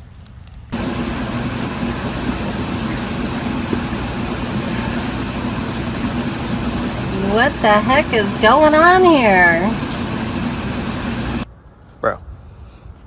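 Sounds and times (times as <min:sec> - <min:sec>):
machine humming: 0:00.7 - 0:11.4.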